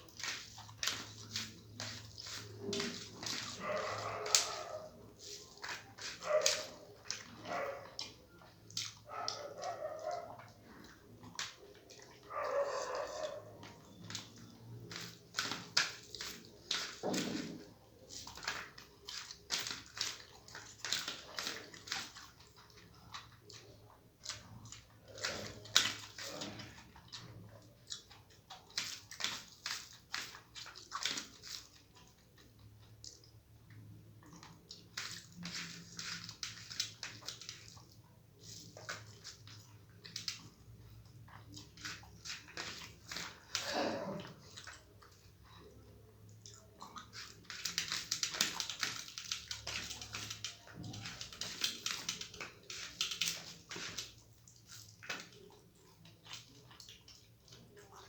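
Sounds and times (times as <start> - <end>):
wet chewing and mouth smacking: 0.0 - 58.0.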